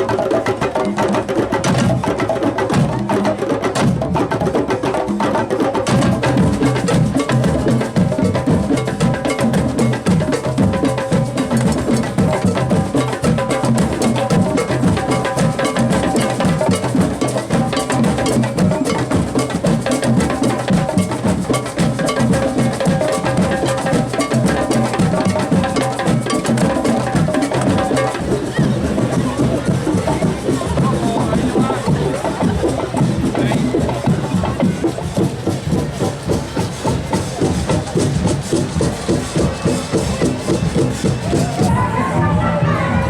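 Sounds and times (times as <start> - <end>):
percussion music with drums: 0.0 - 43.0.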